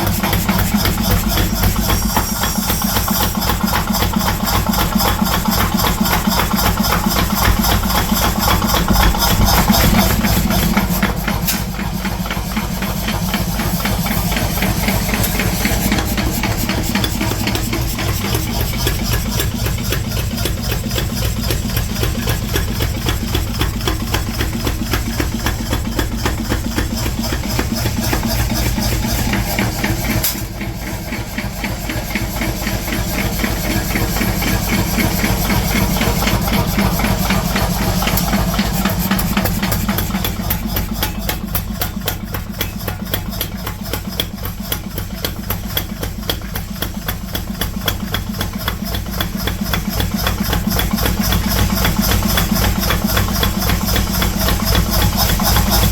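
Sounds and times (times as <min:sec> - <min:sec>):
rapid mechanical strikes: 0:00.0 - 0:55.9.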